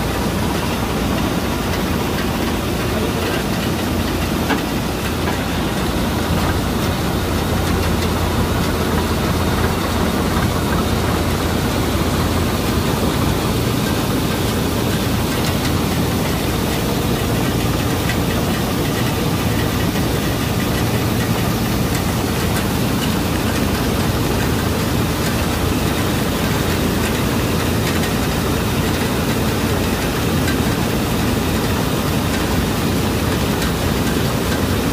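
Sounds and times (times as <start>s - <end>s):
combine harvester running: 0.0s - 34.9s
grain pouring from auger: 0.0s - 34.9s.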